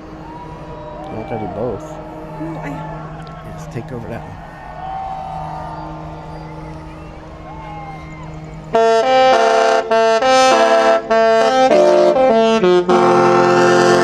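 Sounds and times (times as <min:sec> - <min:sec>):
ship horn playing a tune: 0:00.0 - 0:14.0.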